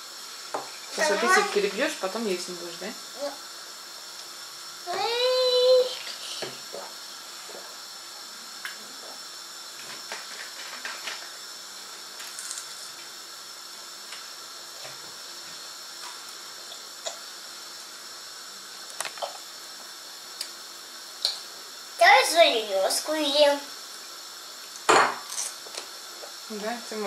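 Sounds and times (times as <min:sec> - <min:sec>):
pot of soup hissing: 0:00.0 - 0:27.0.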